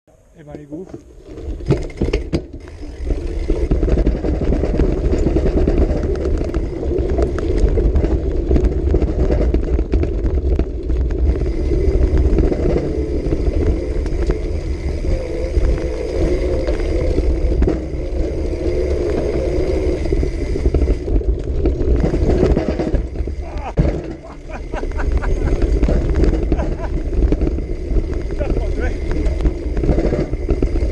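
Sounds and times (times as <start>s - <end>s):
cargo bike rattling: 0.7s - 30.9s
wind rumbling on microphone: 1.1s - 30.9s.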